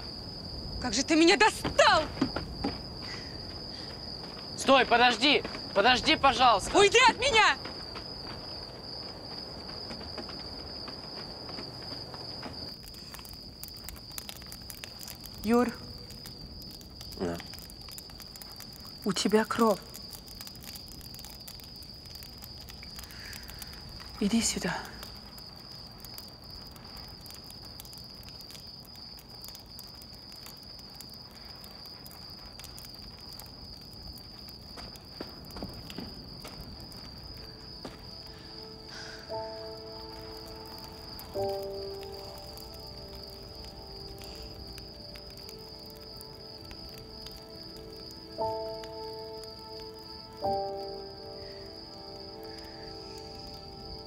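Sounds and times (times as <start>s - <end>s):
crickets chirping: 0.0s - 54.0s
faint clicks and rustles: 1.1s - 50.6s.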